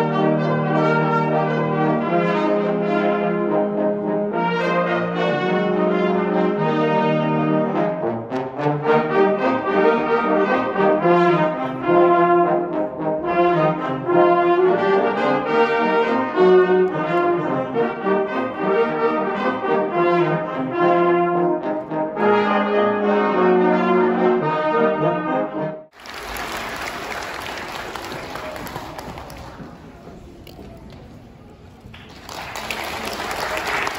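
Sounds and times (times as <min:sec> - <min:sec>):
wind ensemble playing brass piece: 0:00.0 - 0:28.9.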